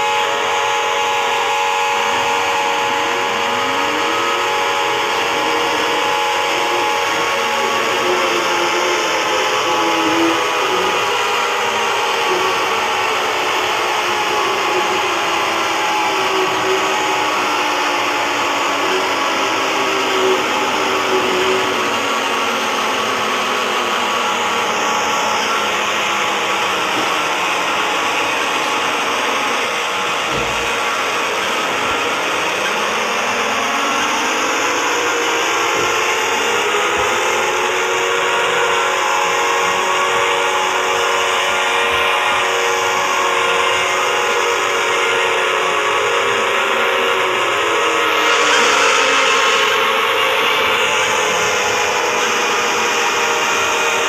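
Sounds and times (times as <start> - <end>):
distorted layered electronic alarm tones: 0.0 - 54.0.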